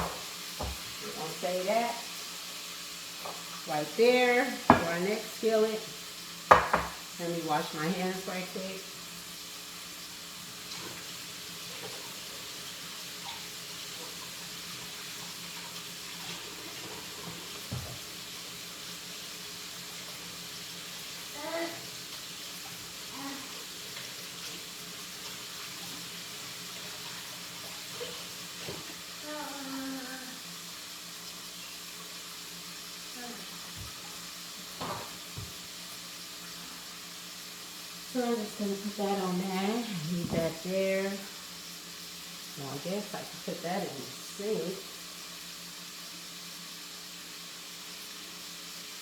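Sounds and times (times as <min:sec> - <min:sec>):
tap water running: 0:00.0 - 0:49.0.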